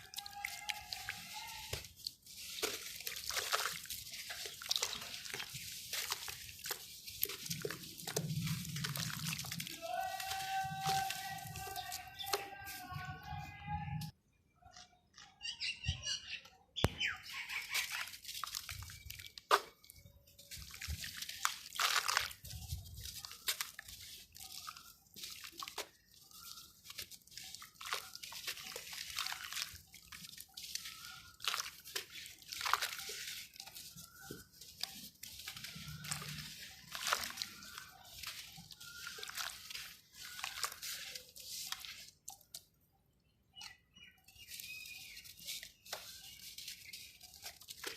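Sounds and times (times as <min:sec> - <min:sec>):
dirt crumbling in water: 0:00.0 - 0:12.6, 0:16.8 - 0:42.9, 0:43.5 - 0:47.9
water splashing: 0:00.0 - 0:12.9, 0:17.0 - 0:42.7.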